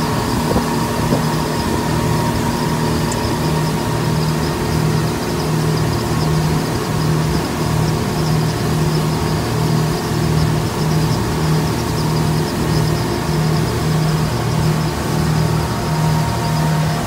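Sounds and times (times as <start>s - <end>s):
outboard engines droning: 0.0s - 17.0s
rushing wind: 0.0s - 17.0s.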